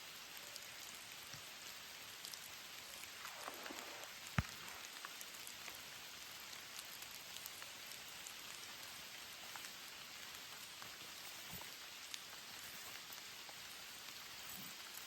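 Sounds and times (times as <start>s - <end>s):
rain falling: 0.0s - 15.0s
sharp raindrop ticks: 0.2s - 15.0s.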